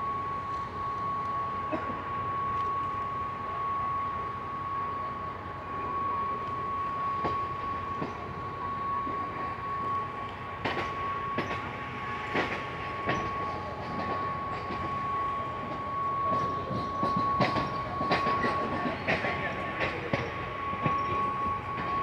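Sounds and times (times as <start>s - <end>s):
electric train rumble: 0.0s - 22.0s
high whine of train: 0.0s - 22.0s.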